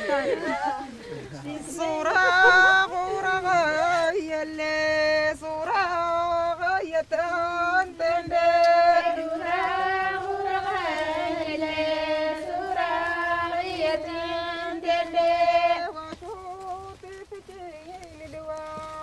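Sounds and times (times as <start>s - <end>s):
woman singing long notes: 1.6s - 19.0s.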